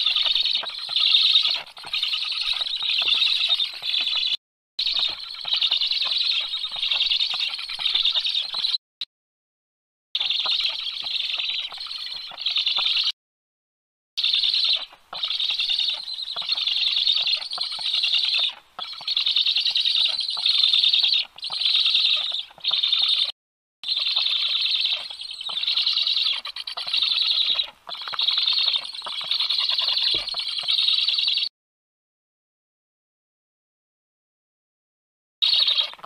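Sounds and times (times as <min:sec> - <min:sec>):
young storks begging calls: 0:00.0 - 0:08.8, 0:10.2 - 0:13.2, 0:14.2 - 0:31.5, 0:35.4 - 0:36.0.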